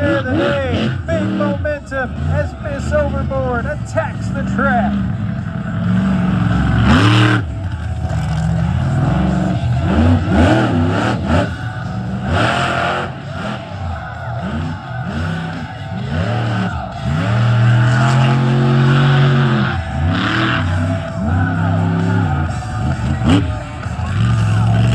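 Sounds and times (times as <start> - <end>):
truck engine revving hard: 0.0 - 24.9.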